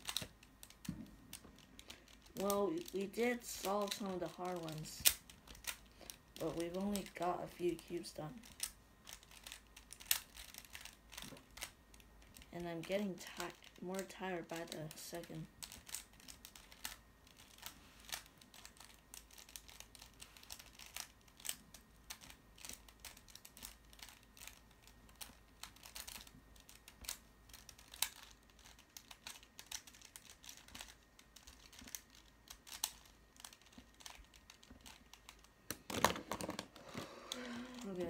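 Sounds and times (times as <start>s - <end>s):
puzzle cube clicking: 0.0s - 12.6s, 13.4s - 38.0s
puzzle cube clatter: 0.0s - 38.0s.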